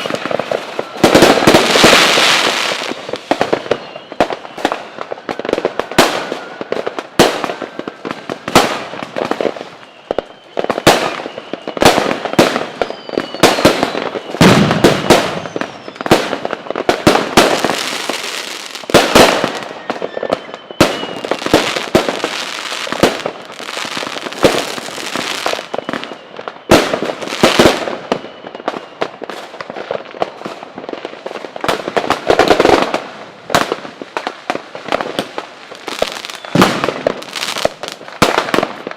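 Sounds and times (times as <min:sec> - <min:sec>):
faint fireworks whistles: 0:00.0 - 0:38.9
fireworks bangs and crackling: 0:00.0 - 0:38.9.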